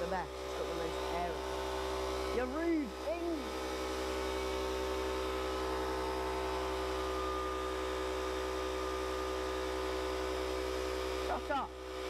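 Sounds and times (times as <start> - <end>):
air compressor motor humming: 0.0 - 12.0.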